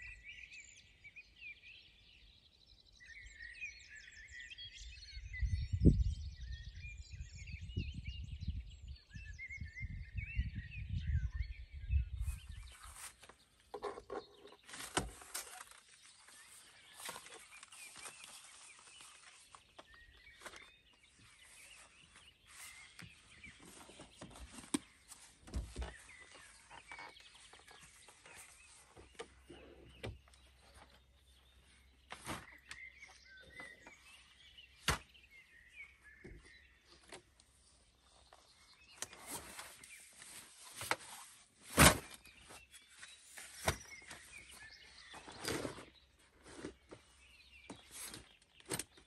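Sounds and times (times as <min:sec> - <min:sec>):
bird chirps: 0:00.0 - 0:41.3, 0:42.0 - 0:49.0
faint outdoor background: 0:00.0 - 0:49.0.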